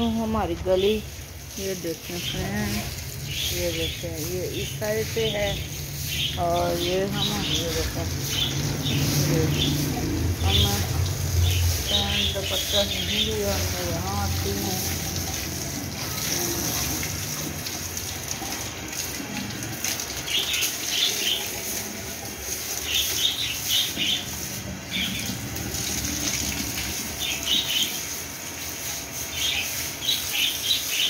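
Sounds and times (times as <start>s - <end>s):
broom scrubbing wet floor: 0.0s - 31.0s
water pouring from a hose: 0.0s - 31.0s.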